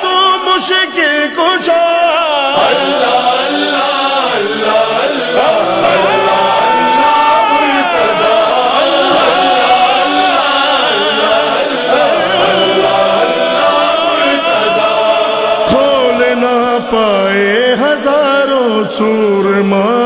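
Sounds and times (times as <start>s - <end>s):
male chorus singing: 0.0s - 20.0s.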